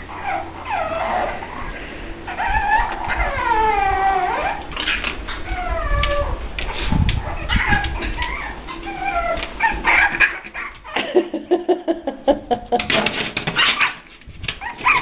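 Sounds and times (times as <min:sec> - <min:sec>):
puppies whimpering and squealing: 0:00.0 - 0:11.0, 0:12.8 - 0:15.0.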